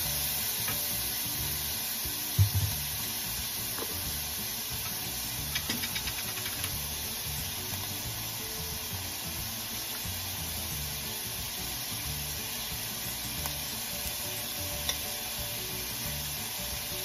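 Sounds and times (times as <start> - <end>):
meat sizzling in a frying pan: 0.0 - 17.0.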